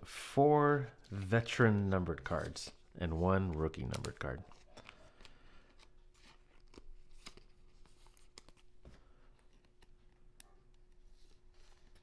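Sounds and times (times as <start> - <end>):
trading cards clicking and rustling: 1.0 - 12.0.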